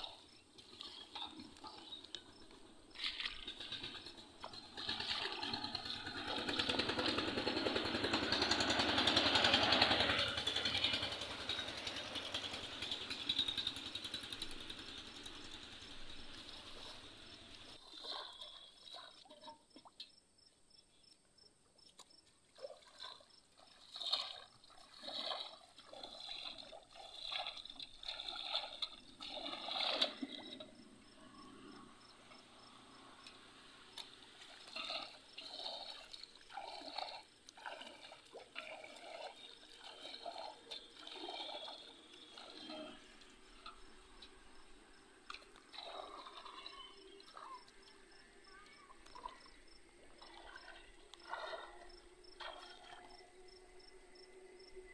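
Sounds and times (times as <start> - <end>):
pond water splashing: 0.0 - 20.0, 21.9 - 54.9.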